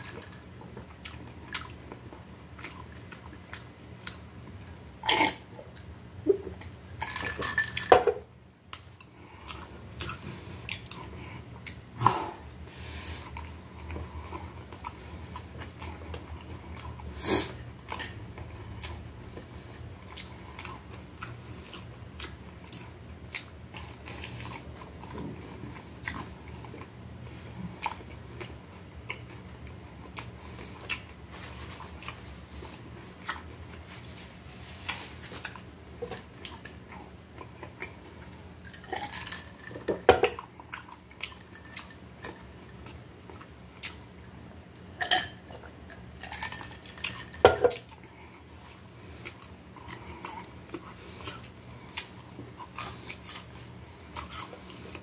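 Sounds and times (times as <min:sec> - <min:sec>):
chewing and crunching food: 0:00.0 - 0:07.9, 0:08.6 - 0:55.0.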